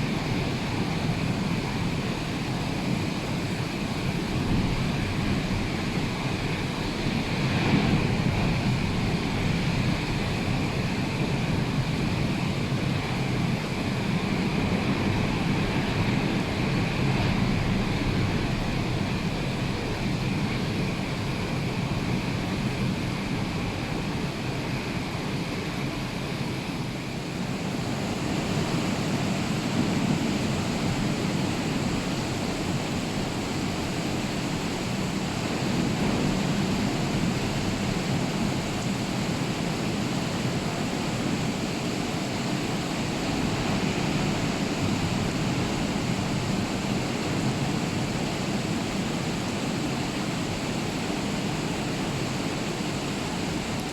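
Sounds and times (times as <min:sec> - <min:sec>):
rough sea surf breaking: 0:00.0 - 0:23.6, 0:27.7 - 0:53.9
rain: 0:00.0 - 0:53.9
wind: 0:00.0 - 0:53.9.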